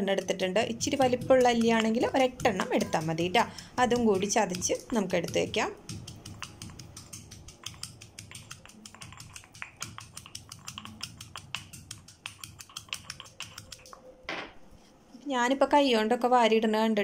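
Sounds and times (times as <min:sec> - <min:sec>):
pestle pounding in stone mortar: 0:00.0 - 0:14.0.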